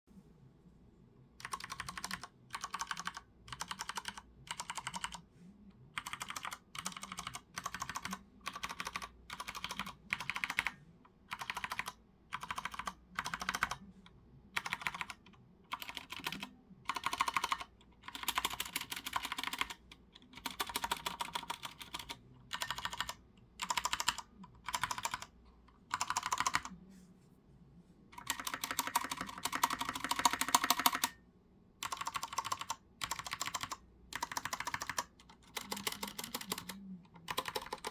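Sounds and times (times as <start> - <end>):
mechanical keyboard typing: 1.4 - 5.2, 6.0 - 13.9, 14.6 - 25.3, 25.9 - 26.8, 28.2 - 31.2, 31.8 - 37.9.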